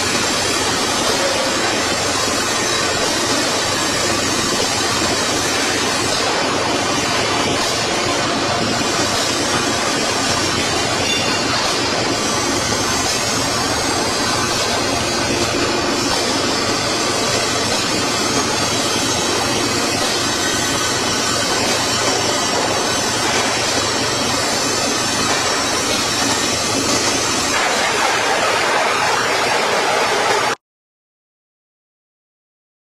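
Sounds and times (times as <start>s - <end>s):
factory machinery running: 0.0s - 30.6s.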